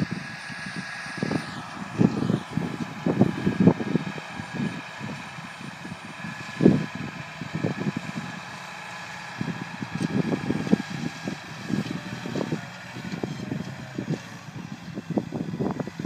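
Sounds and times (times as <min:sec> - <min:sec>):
tractor engine running: 0:00.0 - 0:16.0
wind buffeting microphone: 0:00.0 - 0:16.0.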